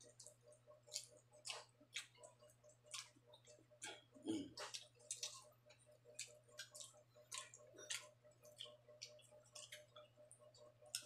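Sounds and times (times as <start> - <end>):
person chewing and lip-smacking: 0.0 - 11.0.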